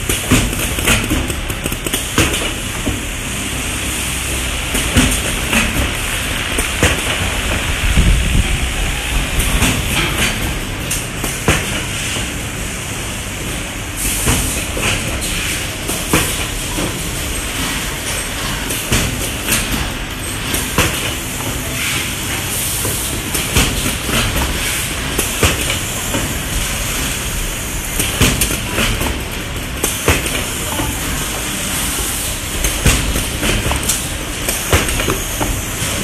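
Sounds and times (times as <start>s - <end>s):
box making machinery running: 0.0s - 36.0s.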